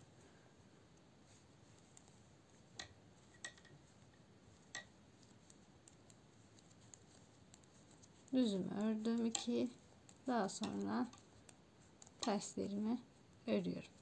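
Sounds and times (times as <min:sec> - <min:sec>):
knitting needles clicking: 0:01.3 - 0:13.0.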